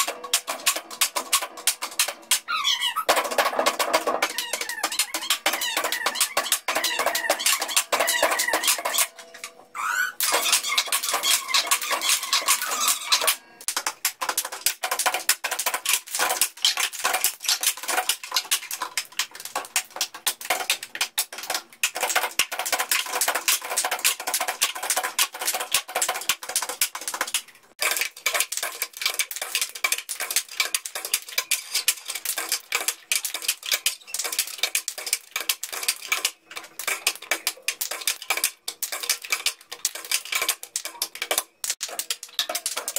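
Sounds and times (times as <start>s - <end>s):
plastic cup percussion on desks: 0.0s - 42.9s.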